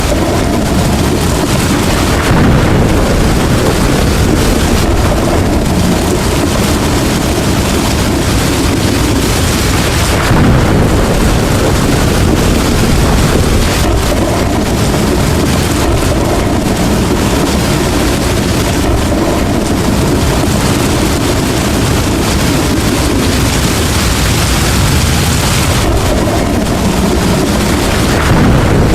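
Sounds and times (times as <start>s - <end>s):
heavy rain pouring: 0.0s - 28.9s
thunder rumbling: 0.0s - 28.9s.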